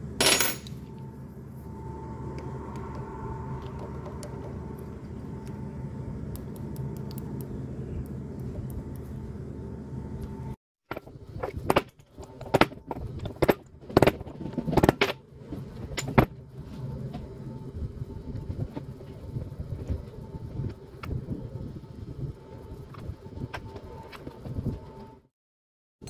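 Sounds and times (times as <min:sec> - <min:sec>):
low hum: 0:00.0 - 0:25.3.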